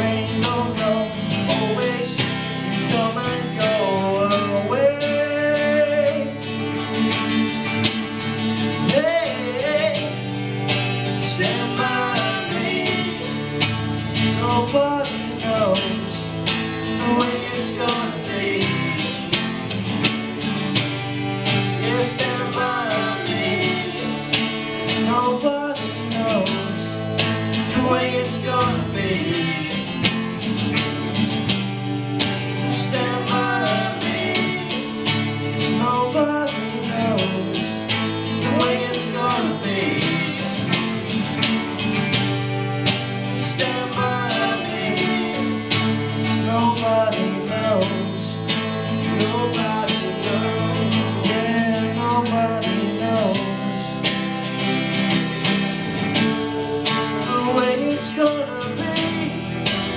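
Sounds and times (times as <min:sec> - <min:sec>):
guitar music: 0:00.0 - 0:59.9.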